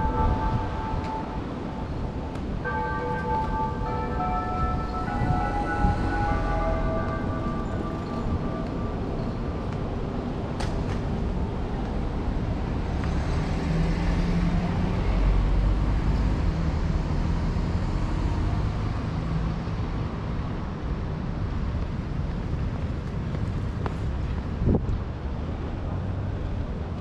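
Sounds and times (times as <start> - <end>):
steady traffic noise: 0.0 - 27.0.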